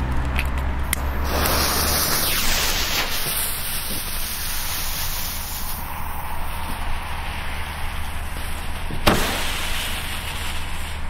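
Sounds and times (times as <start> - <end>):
firework hissing sparks: 0.9 - 11.0.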